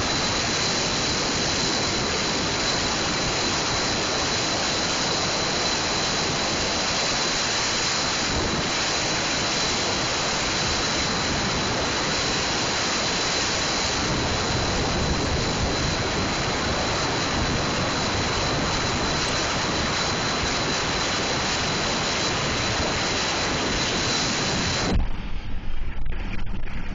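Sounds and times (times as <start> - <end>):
road and wind noise: 0.0 - 25.0
faint high whine: 0.0 - 26.9.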